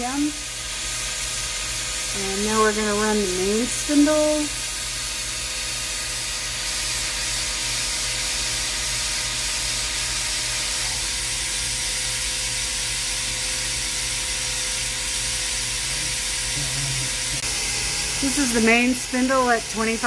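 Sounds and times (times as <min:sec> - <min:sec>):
faint machine hums: 0:00.0 - 0:20.0
lathe spindle hissing: 0:00.0 - 0:20.0.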